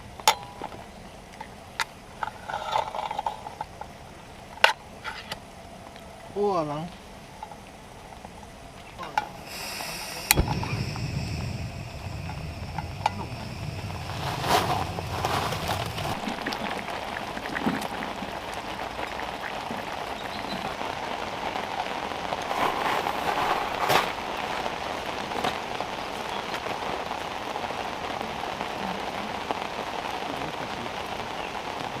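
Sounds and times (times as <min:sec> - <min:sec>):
steady rain pattering: 0:00.0 - 0:32.0.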